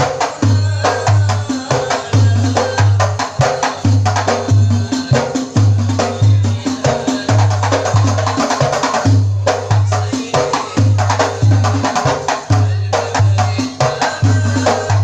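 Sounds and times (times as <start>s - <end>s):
deep bass drum beating: 0.0s - 15.0s
hand-struck frame drums: 0.0s - 15.0s.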